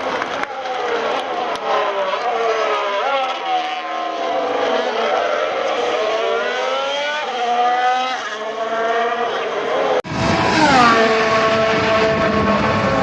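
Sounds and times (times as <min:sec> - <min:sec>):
racing car engine at high revs: 0:00.0 - 0:13.0.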